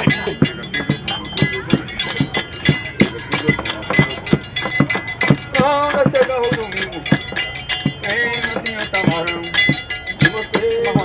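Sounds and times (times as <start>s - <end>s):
hand drum beat: 0.0s - 11.0s
metal triangle ringing: 0.0s - 11.0s.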